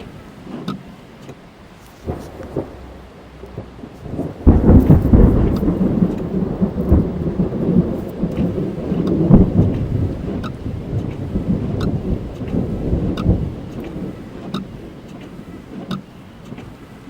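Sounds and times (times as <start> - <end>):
rain falling on car: 0.0 - 17.0
thunder rumbling: 0.0 - 17.0.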